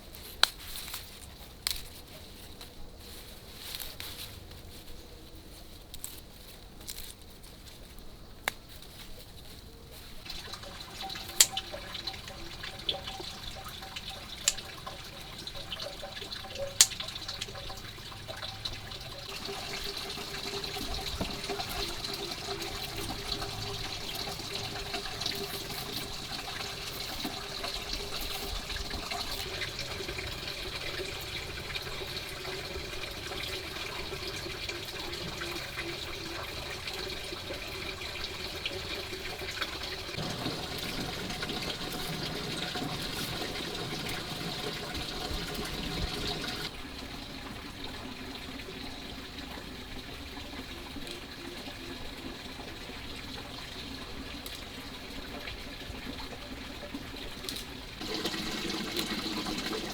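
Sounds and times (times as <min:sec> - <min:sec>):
water running and splashing: 0:10.1 - 0:59.9.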